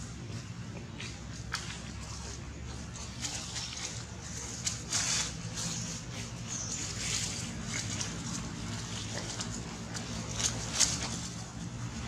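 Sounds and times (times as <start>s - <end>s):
low outdoor hum and hiss: 0.0s - 12.0s
dry leaf litter rustling: 1.6s - 12.0s.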